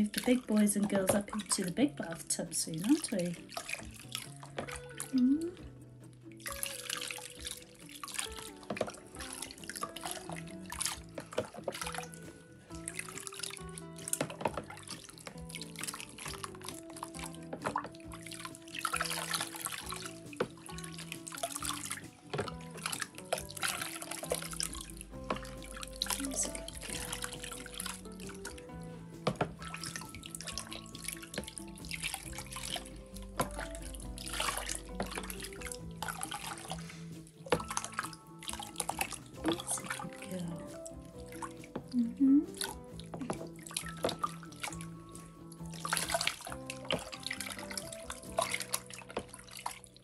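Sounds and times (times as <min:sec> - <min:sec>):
background music: 0:00.0 - 0:50.0
jug dipped into water: 0:00.0 - 0:50.0
water pouring and splashing: 0:00.0 - 0:50.0.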